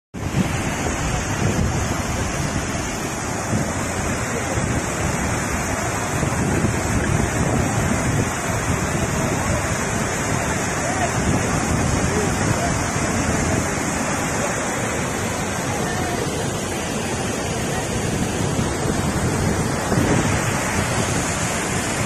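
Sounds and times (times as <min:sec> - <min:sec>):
water rushing over spillway: 0:00.2 - 0:22.0
wind buffeting microphone: 0:00.2 - 0:22.0.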